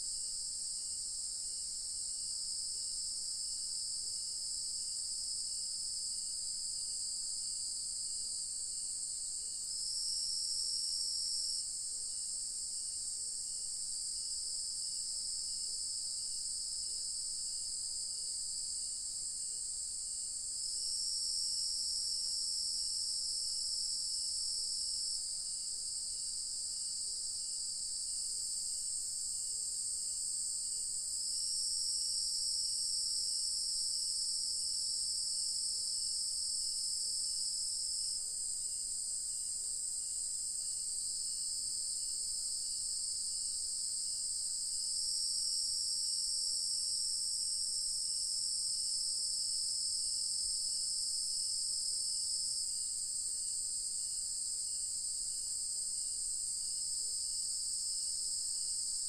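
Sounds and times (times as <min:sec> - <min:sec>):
faint pulsing insect chirp: 0:00.0 - 0:59.0.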